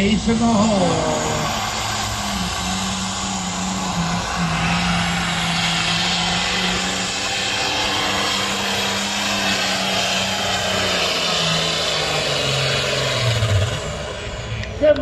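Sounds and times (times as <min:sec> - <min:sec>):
diesel tractor engine at high revs: 0:00.0 - 0:15.0.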